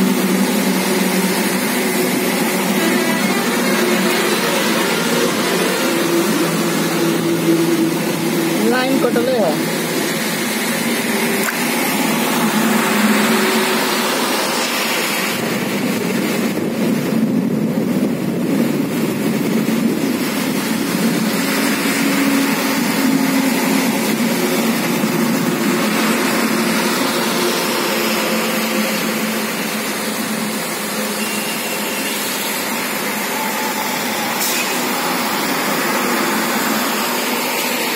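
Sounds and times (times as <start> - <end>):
gusty wind: 0.0 - 31.2
heavy rain: 0.0 - 37.9.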